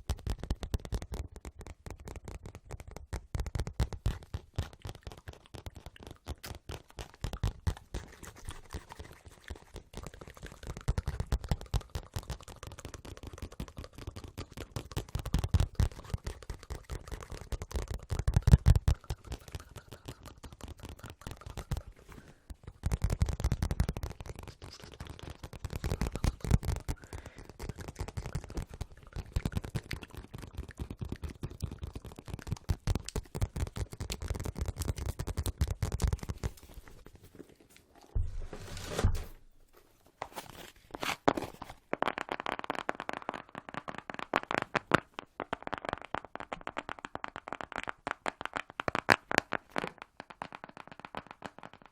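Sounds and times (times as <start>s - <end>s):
fast tapping on microphone: 0.0s - 37.0s, 41.6s - 51.9s.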